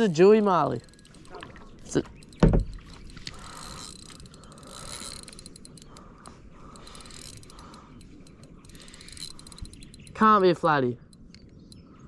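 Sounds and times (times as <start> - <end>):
fishing reel drag clicking: 0.2 - 11.9.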